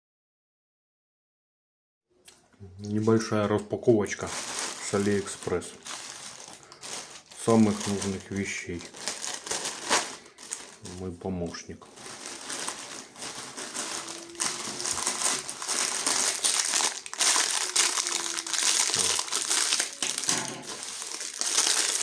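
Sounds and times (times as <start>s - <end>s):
packaging crumpling: 4.1s - 22.0s.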